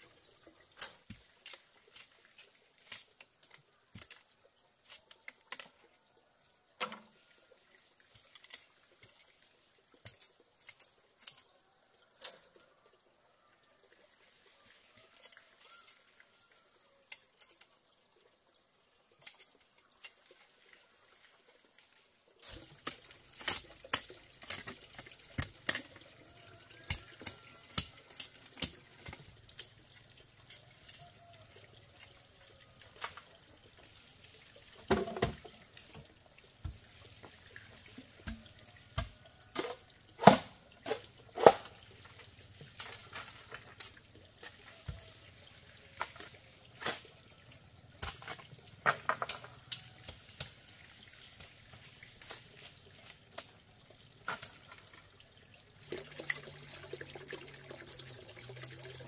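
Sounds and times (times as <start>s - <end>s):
water splashing and dripping: 0.0s - 59.0s.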